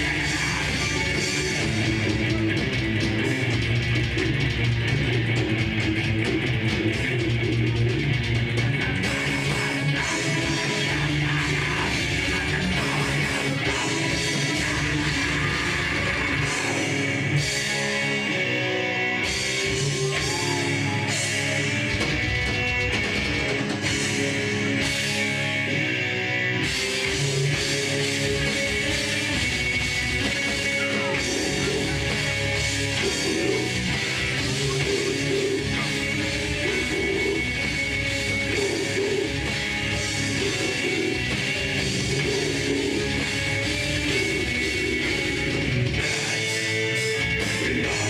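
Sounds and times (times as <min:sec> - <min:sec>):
distorted electric guitars: 0:00.0 - 0:48.0
drums: 0:00.0 - 0:48.0
heavy metal band playing live: 0:00.0 - 0:48.0.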